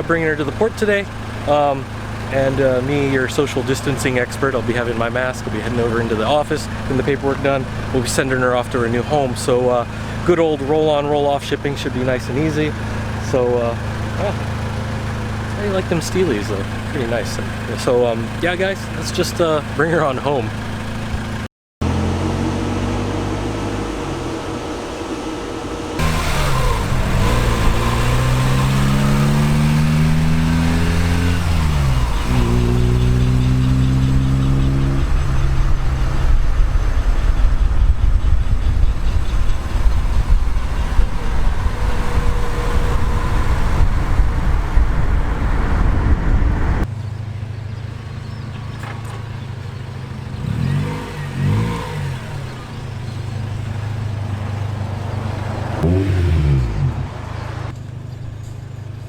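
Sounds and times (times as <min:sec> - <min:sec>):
car engine accelerating: 0:00.0 - 0:58.7
road noise: 0:00.0 - 0:59.0.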